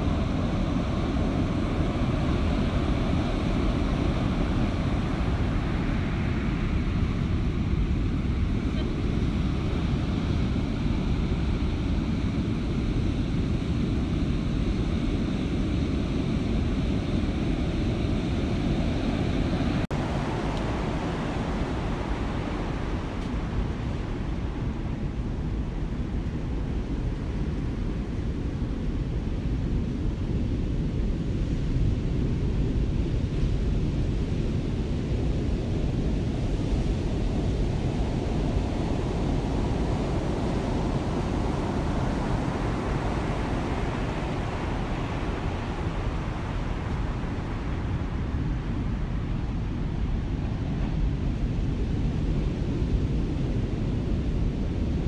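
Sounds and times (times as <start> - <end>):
heavy ocean surf: 0.0 - 28.4, 35.4 - 55.0
wind noise: 0.0 - 55.0.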